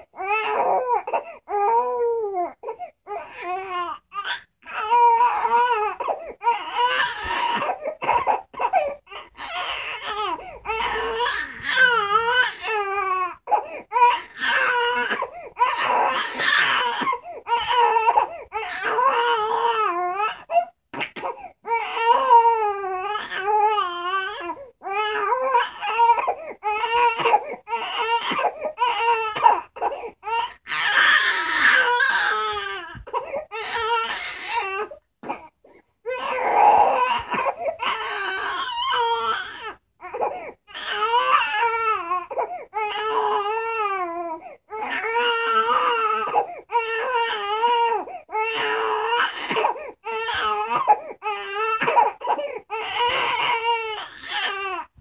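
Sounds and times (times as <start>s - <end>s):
baby crying: 0.0s - 55.0s.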